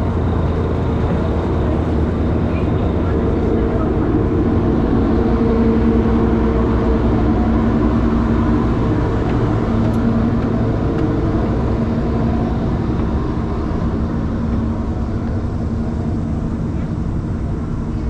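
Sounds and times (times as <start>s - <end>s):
boat engine humming: 0.0s - 18.0s
water noise: 0.0s - 18.0s
wind: 0.0s - 18.0s.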